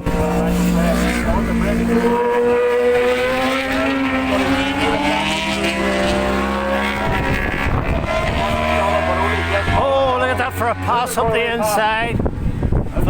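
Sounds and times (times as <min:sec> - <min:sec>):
racing motorcycles passing: 0:00.0 - 0:13.0.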